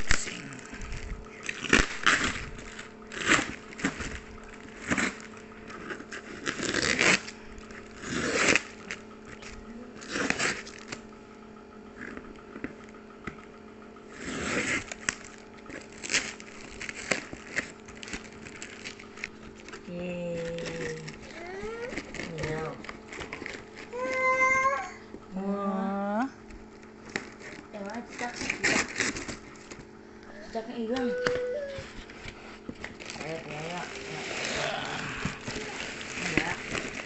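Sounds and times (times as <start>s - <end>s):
plastic wrap and tape tearing: 0.0s - 11.0s, 14.1s - 24.8s, 27.0s - 29.9s, 30.9s - 37.0s
faint steady hum: 0.0s - 37.0s.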